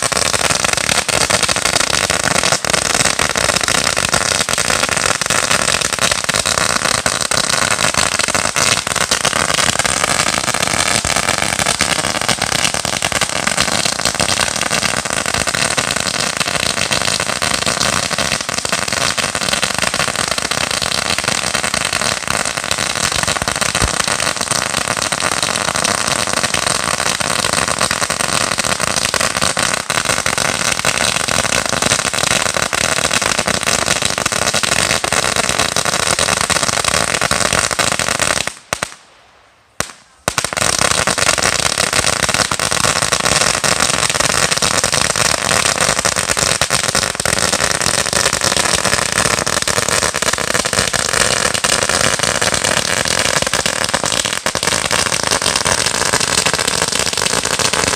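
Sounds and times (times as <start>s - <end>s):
firecracker strip rapid bangs: 0.0s - 57.9s.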